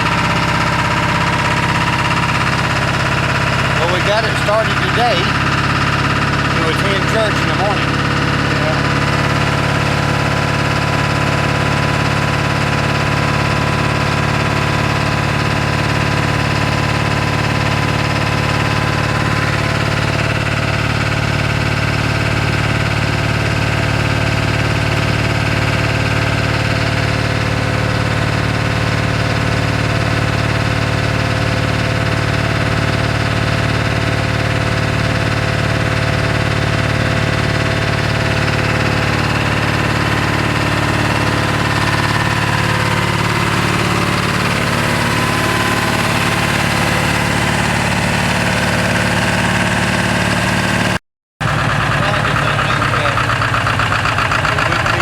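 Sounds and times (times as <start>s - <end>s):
diesel engine idling rough: 0.0s - 55.0s.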